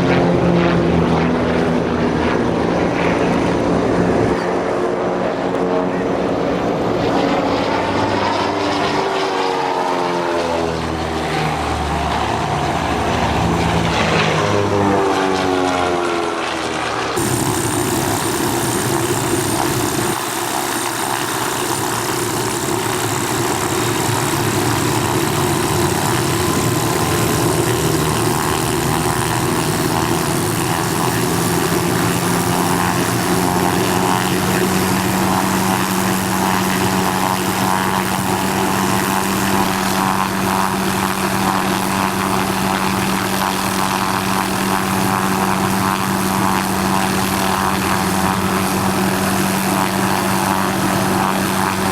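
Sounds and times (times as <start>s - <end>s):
propeller airplane engine drone: 0.0s - 51.9s.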